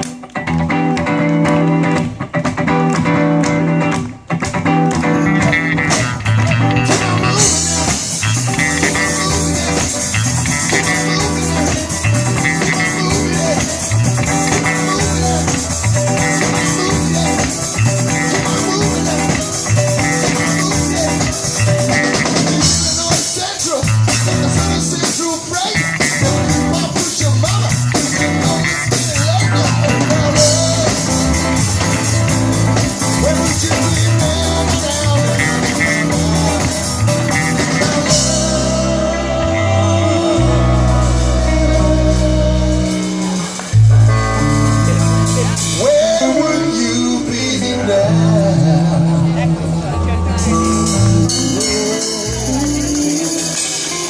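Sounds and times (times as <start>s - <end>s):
live blues rock band: 0.0s - 54.0s.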